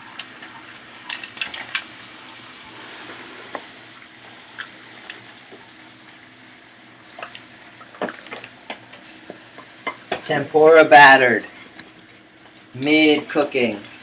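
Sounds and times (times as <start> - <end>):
food sizzling: 0.0 - 14.0.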